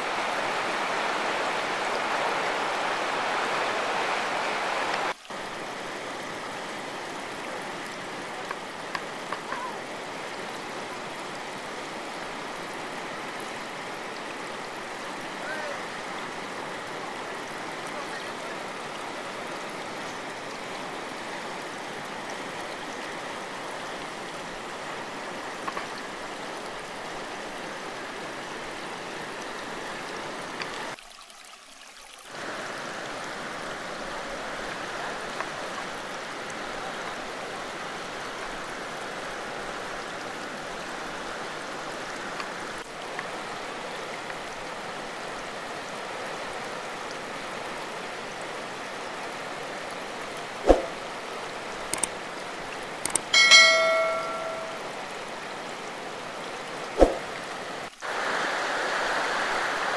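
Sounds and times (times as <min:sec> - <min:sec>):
river rushing over rapids: 0:00.0 - 0:31.0, 0:32.3 - 0:59.9.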